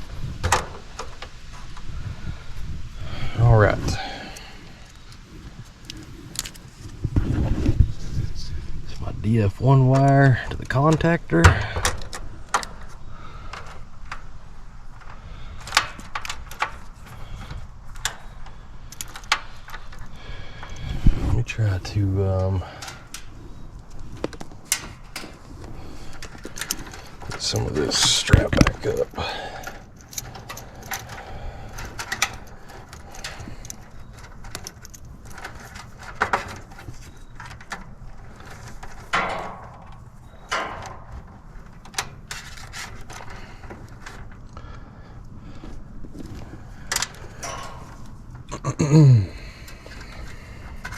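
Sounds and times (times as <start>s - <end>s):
rustling of wiring and strap: 0.0s - 48.5s, 49.4s - 50.9s.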